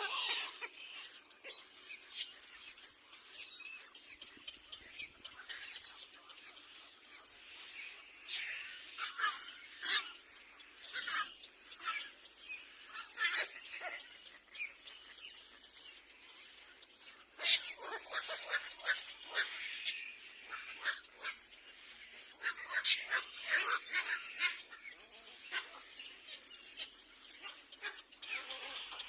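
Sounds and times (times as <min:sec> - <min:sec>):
birds calling shrilly: 0:00.0 - 0:29.0.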